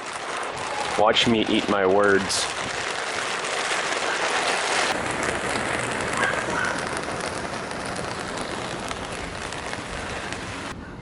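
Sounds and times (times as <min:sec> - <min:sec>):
heavy rain: 0:00.0 - 0:10.7.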